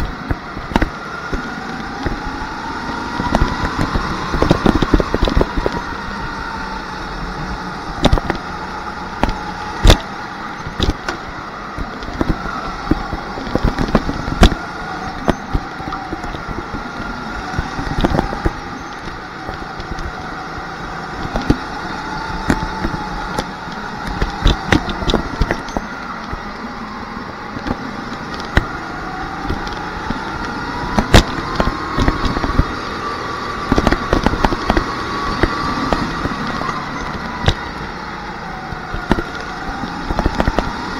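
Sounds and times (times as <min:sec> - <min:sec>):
sharp knocks and crackles: 0:00.0 - 0:06.6, 0:07.5 - 0:26.6, 0:27.4 - 0:40.9
go-kart motor running: 0:00.0 - 0:40.9.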